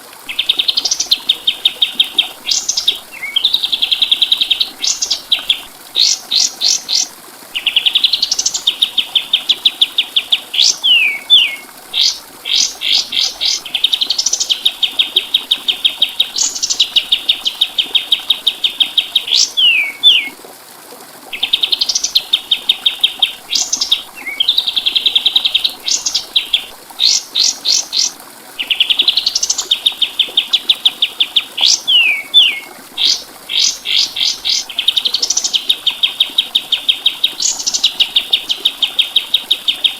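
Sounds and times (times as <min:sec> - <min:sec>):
songbird singing trills and whistles: 0:00.3 - 0:20.4, 0:21.4 - 0:39.9.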